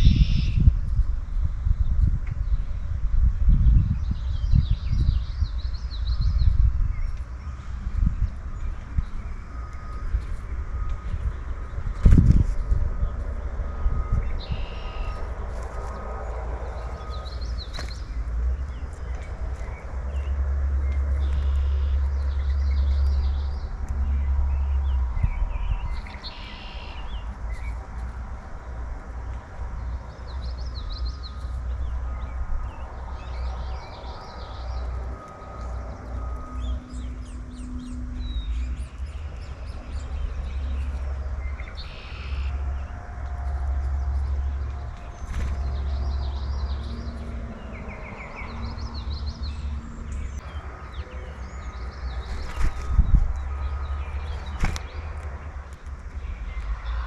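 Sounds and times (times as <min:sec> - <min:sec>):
low rumble: 0:00.0 - 0:57.0
songbirds chirping: 0:00.0 - 0:57.0.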